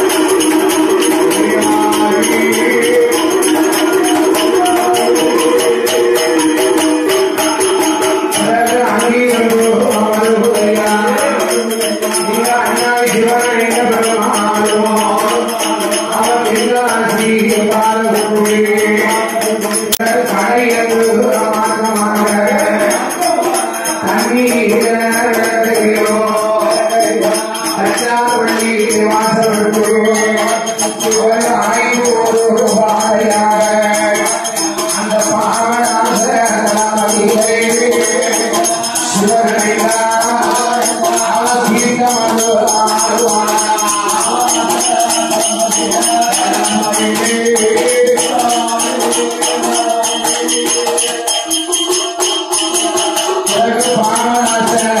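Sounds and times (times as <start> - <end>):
jingling bells: 0.0 - 55.0
person singing: 0.0 - 55.0
rhythmic beating of bow instrument: 0.0 - 55.0.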